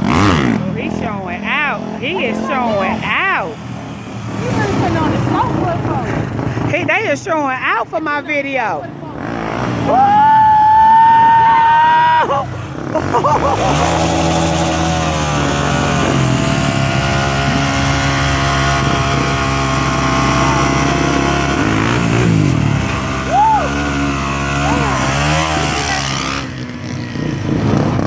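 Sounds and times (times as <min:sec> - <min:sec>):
off-road engines running and revving: 0:00.0 - 0:28.0.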